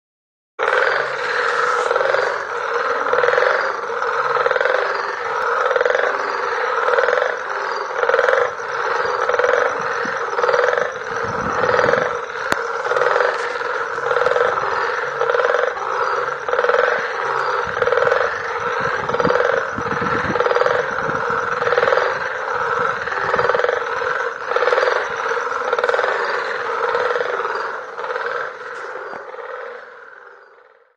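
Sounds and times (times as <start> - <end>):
chorus of frogs croaking: 0.6 - 30.9.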